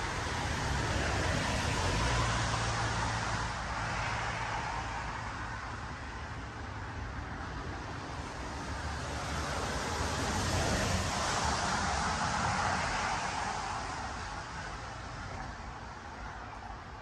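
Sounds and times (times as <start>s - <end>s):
steady rushing outdoor noise: 0.0s - 17.0s.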